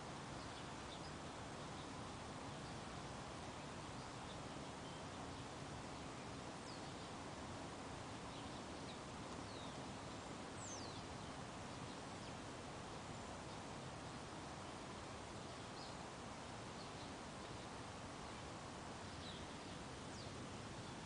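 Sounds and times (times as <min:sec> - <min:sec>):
outdoor background noise: 0:00.0 - 0:21.0
faint bird chirps: 0:00.3 - 0:07.3, 0:08.2 - 0:12.5, 0:13.3 - 0:16.1, 0:16.7 - 0:21.0.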